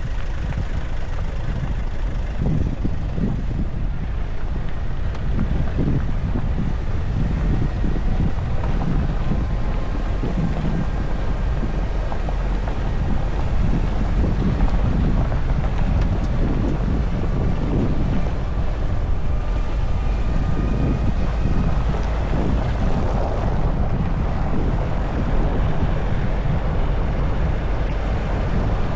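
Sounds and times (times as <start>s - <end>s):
engine and road rumble: 0.0s - 28.9s
wind buffeting microphone: 0.0s - 28.9s.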